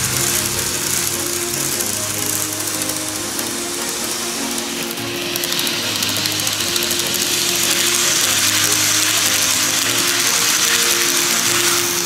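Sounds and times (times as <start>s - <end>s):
model train wheels rattling: 0.0s - 12.0s.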